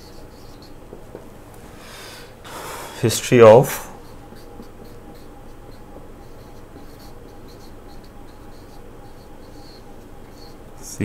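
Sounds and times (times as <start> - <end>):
marker writing on whiteboard: 0.0 - 1.3, 3.3 - 10.9.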